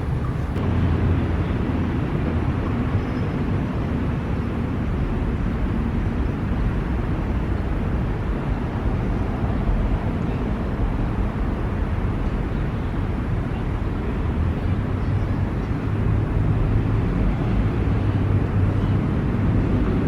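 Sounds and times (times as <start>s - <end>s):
distant city traffic rumble: 0.0s - 20.0s.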